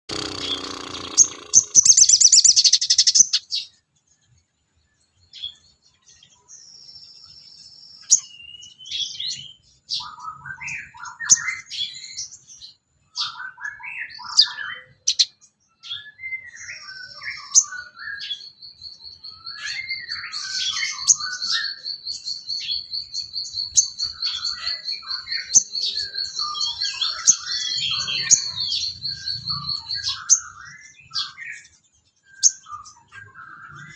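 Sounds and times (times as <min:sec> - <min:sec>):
high bird calls: 0:00.1 - 0:03.8, 0:08.0 - 0:33.9
steady high bird trill: 0:00.1 - 0:03.8, 0:07.9 - 0:33.9
songbird chirps and warbling: 0:00.1 - 0:33.9.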